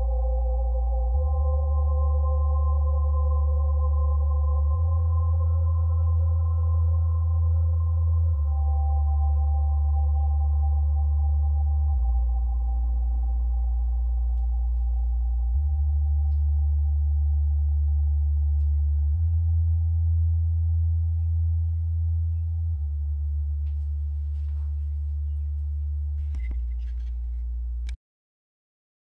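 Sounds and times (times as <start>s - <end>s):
synthesizer drone: 0.0s - 27.9s
synthesizer bass notes: 0.0s - 28.0s.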